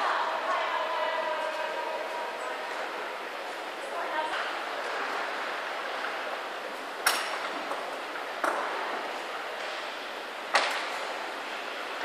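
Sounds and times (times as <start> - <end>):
indoor hall background noise: 0.0 - 12.0.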